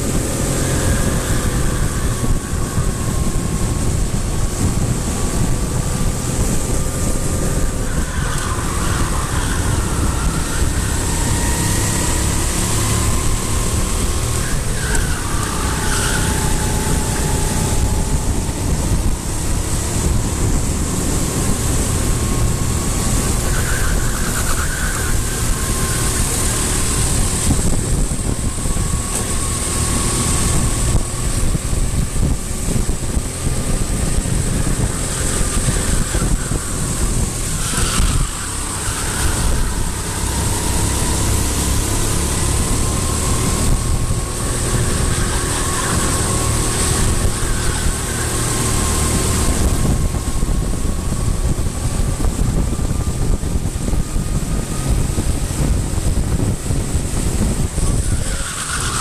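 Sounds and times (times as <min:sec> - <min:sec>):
vehicle engine whine and rumble: 0:00.0 - 0:59.0.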